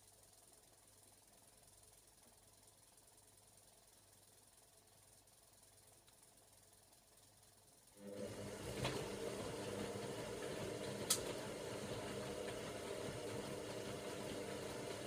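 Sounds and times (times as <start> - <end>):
washing machine humming: 0.1 - 15.0.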